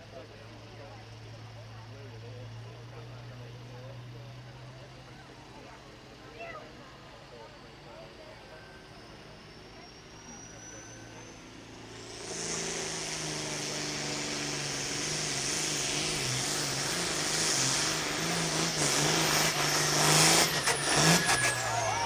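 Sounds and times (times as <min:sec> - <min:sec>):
tractor diesel engine at full power: 0:00.0 - 0:22.0.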